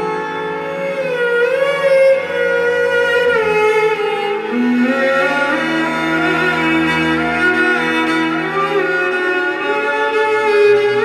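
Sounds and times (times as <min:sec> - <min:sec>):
bowed string melody gliding: 0:00.0 - 0:11.0.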